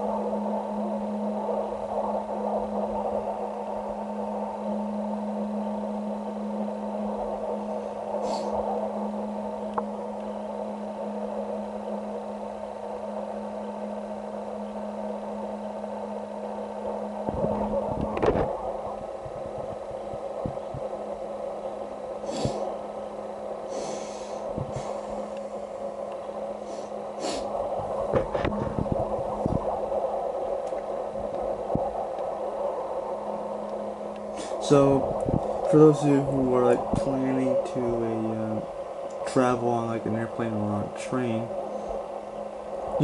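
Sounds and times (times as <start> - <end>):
drone: 0.0 - 43.0
steady low hum: 0.0 - 43.0.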